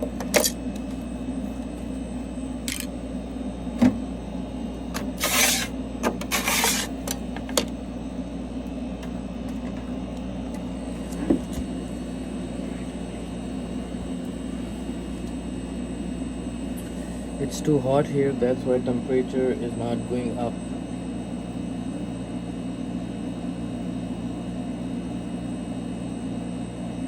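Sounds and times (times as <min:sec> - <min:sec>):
freezer machine hum: 0:00.0 - 0:27.0.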